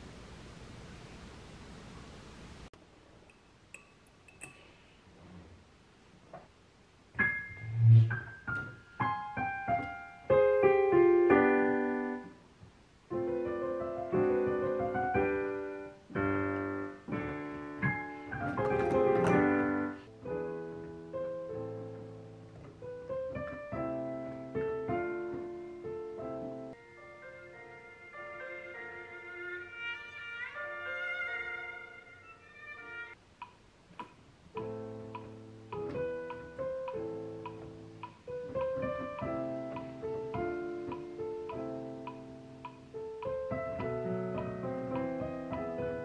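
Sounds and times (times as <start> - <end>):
digital piano chords: 7.0 - 33.2, 34.0 - 46.0.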